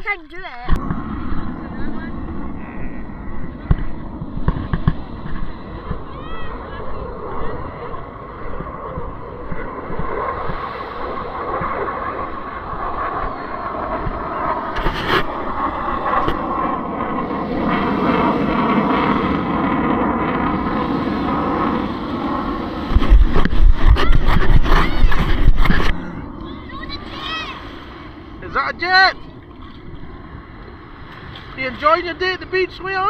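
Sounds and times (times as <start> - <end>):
jet engine roar: 0.0 - 33.0
wind buffeting on microphone: 0.0 - 33.0.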